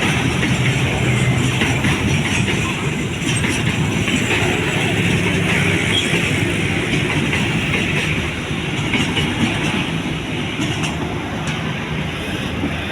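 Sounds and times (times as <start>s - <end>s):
freight train wagons rumbling on rails: 0.0s - 12.9s.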